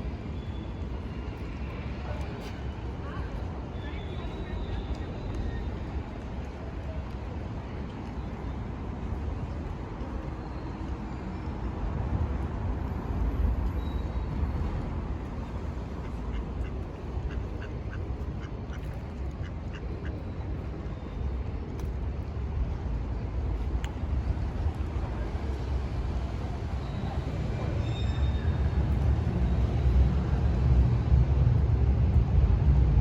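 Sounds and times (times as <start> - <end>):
low outdoor rumble: 1.6 - 33.0.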